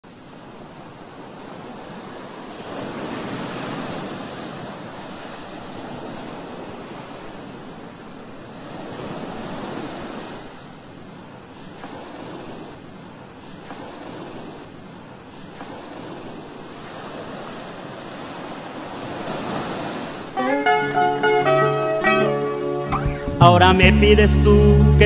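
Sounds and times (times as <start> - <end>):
ocean waves breaking: 0.1 - 25.0.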